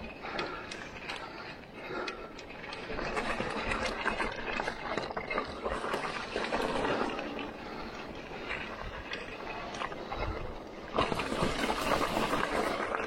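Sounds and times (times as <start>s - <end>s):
bike tyres on rough trail: 0.0s - 13.0s
crunches rattles and knocks: 0.0s - 13.0s.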